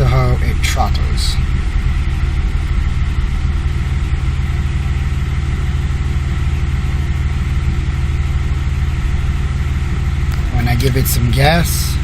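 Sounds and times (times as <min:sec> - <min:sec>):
car engine idling rough: 0:00.0 - 0:12.0.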